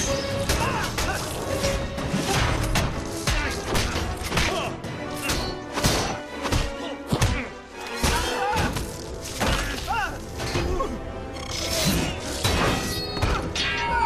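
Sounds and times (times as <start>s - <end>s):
orchestral score: 0.0s - 14.0s.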